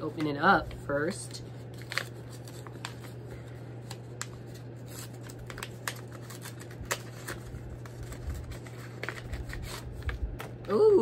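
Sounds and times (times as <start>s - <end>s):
paper envelope rustling: 0.0s - 10.8s.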